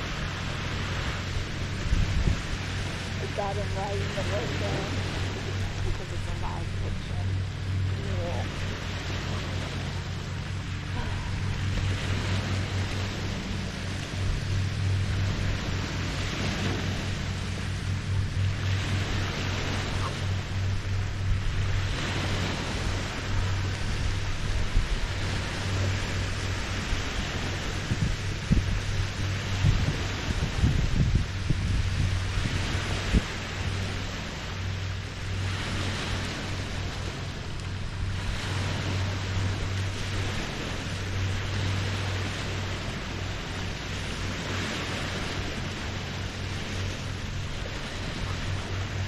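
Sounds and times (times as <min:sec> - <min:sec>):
constant low rumble: 0:00.0 - 0:49.0
steady low hum: 0:00.0 - 0:49.0
waves lapping on shoreline: 0:00.0 - 0:49.0
wind on microphone: 0:00.0 - 0:49.0.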